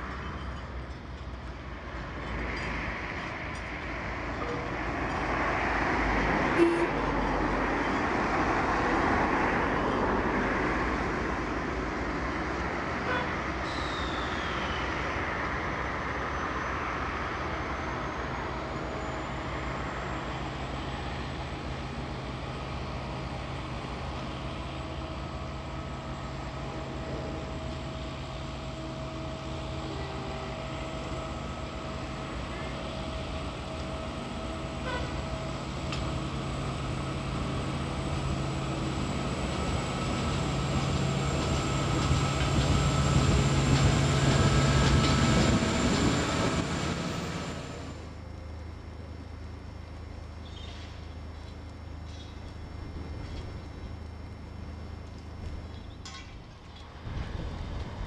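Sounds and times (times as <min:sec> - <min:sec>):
engine hum: 0:00.0 - 0:58.0.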